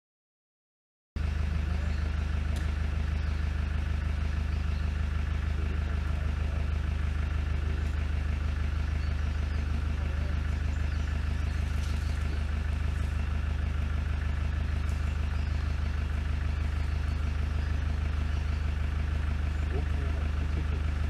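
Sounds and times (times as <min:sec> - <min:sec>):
vehicle engine idling: 0:01.2 - 0:21.0.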